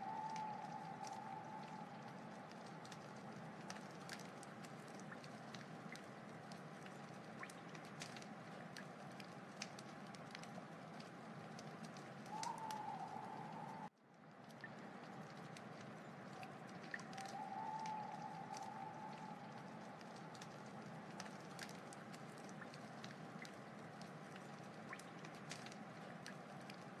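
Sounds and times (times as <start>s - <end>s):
thin whistling from burning wood: 0.0s - 13.9s, 14.5s - 26.9s
wood fire crackling: 0.0s - 27.0s.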